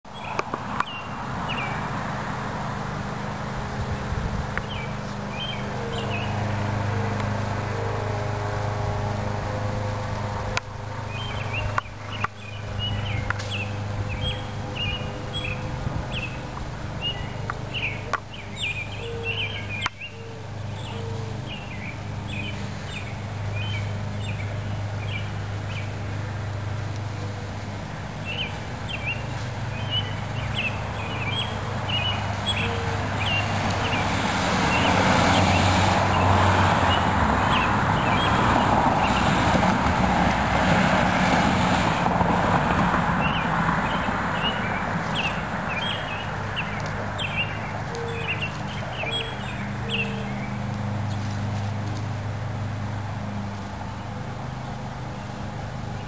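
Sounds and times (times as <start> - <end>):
birds chirping: 0.1 - 1.9, 3.6 - 41.0, 41.9 - 51.5.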